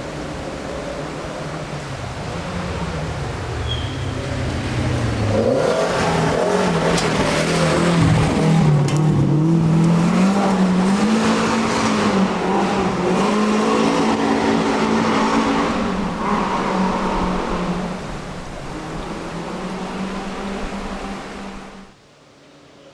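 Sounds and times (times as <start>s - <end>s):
tyre and road noise: 0.0s - 22.0s
rally car engine revving: 1.9s - 21.9s.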